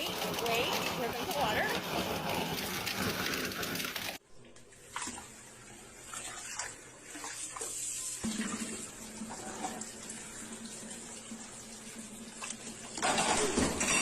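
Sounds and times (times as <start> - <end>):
water dispenser gushing: 0.0 - 4.2, 4.8 - 13.8.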